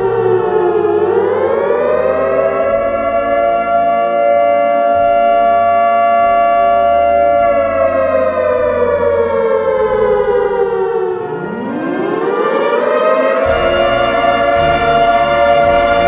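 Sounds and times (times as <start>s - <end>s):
civil defence siren winding: 0.0s - 16.0s.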